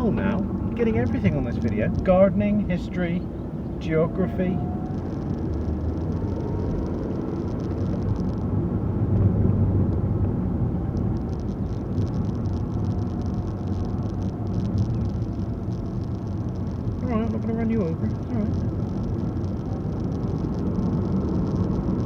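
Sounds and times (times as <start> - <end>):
car engine rumble: 0.0 - 22.0
road noise: 0.0 - 22.0.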